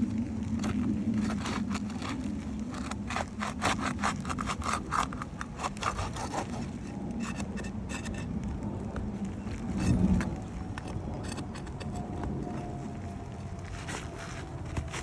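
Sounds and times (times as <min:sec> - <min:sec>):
shingles scraping and rubbing: 0:00.0 - 0:15.0
steady low rumble: 0:00.0 - 0:15.0.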